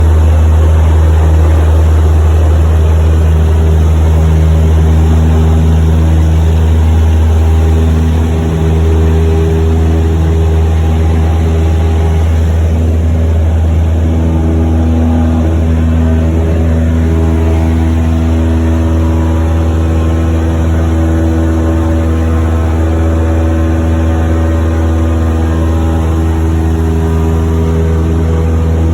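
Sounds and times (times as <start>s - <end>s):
propeller plane engine drone: 0.0s - 28.9s.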